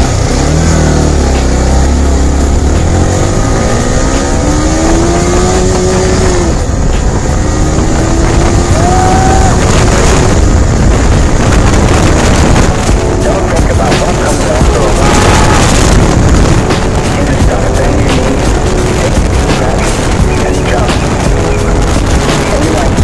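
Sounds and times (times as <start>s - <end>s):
motorcycle engine accelerating: 0.0s - 23.0s
wind blast on microphone: 2.2s - 23.0s.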